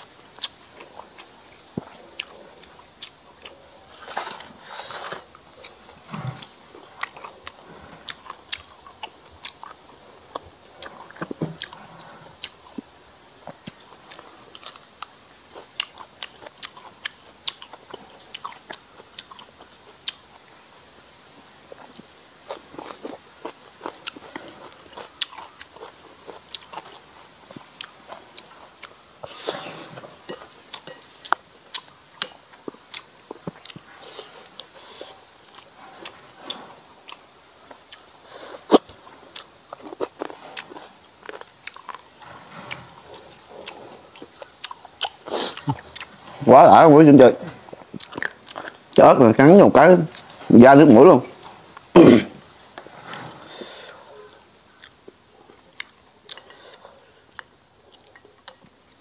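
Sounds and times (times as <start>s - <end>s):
crunchy chewing: 0.0s - 20.8s, 21.4s - 59.0s.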